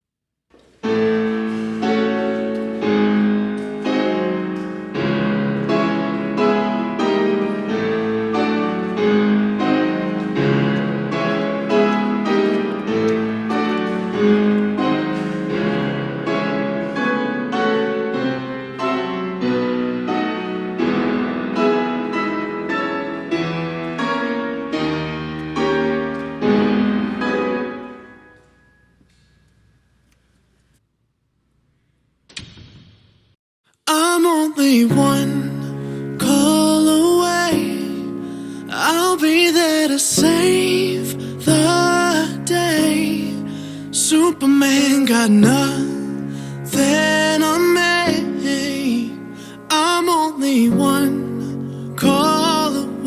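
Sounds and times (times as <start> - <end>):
solo piano music: 0.8 - 29.2, 34.0 - 53.0.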